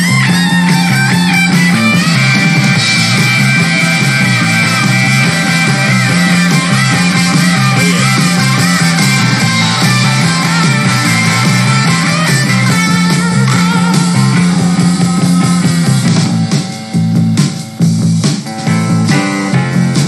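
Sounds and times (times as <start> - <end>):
bass line: 0.0 - 20.0
electric guitar lead: 0.0 - 20.0.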